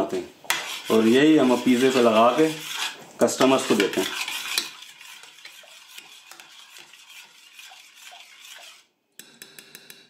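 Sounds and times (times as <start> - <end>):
metal spoon scraping saucepan: 0.4 - 8.9.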